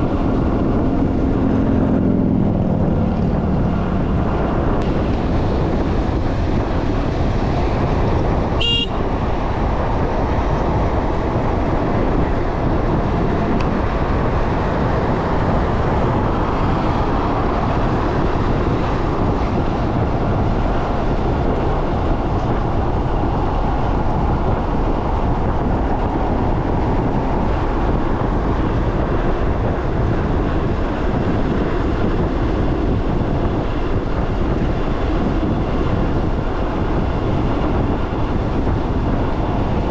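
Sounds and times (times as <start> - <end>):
wind and road noise: 0.0 - 39.9
wind buffeting microphone: 0.0 - 39.9.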